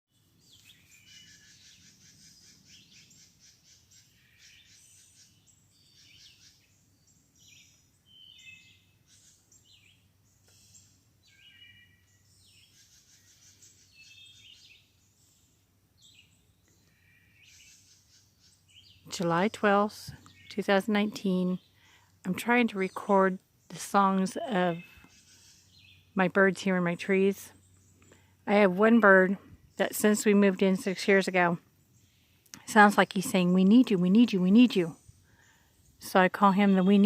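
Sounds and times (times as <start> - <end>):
songbirds singing and chirping: 0.1 - 37.0.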